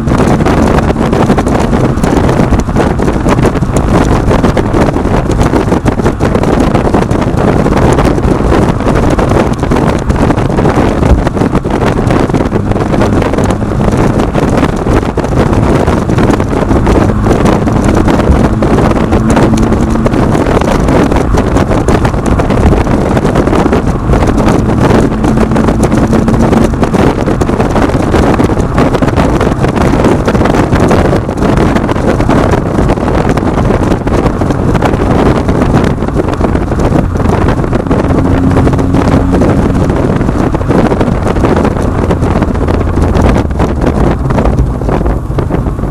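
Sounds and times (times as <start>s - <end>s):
car exhaust drone: 0.0s - 45.9s.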